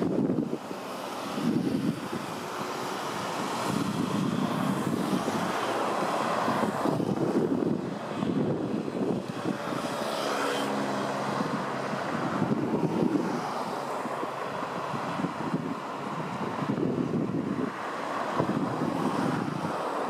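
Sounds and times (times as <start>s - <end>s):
propeller plane engine droning: 0.0s - 20.0s
wind on microphone: 0.0s - 20.0s.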